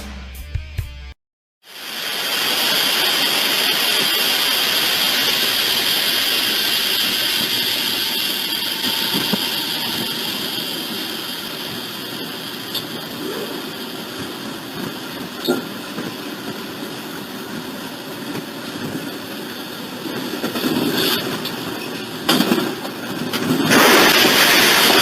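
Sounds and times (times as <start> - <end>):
train rushing by: 1.7 - 25.0.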